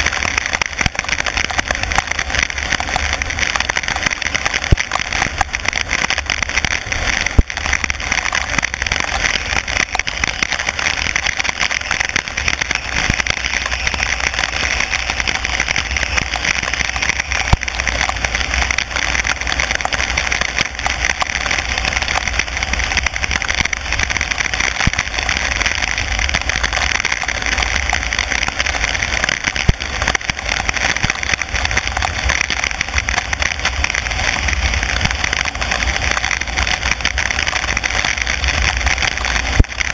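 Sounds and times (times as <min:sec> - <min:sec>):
car low rumble: 0:00.0 - 0:39.9
rain and tyre spray hiss: 0:00.0 - 0:39.9.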